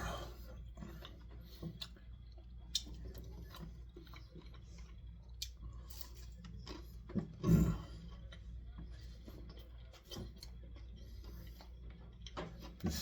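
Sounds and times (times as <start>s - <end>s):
chewing crispy food: 0.0s - 13.0s
low room hum: 0.0s - 13.0s.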